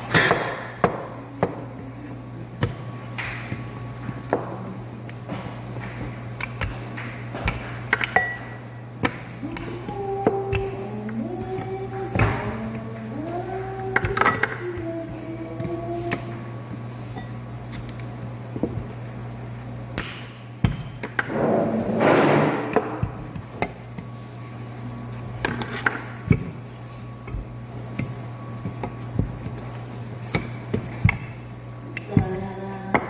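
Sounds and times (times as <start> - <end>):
rolling pin rolling dough: 0.0 - 33.0
steady low hum: 0.0 - 33.0.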